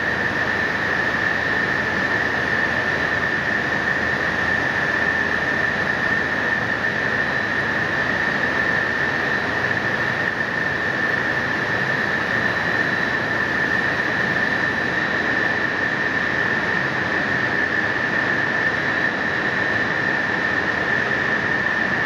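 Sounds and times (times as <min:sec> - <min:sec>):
high-pitched machine whine: 0:00.0 - 0:22.0.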